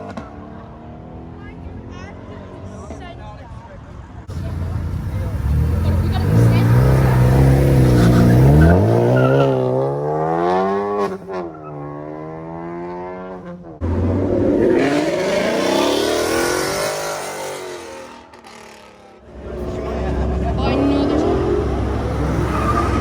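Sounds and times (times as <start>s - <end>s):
car engine idling and revving: 0.0s - 23.0s
car accelerating past: 4.3s - 23.0s.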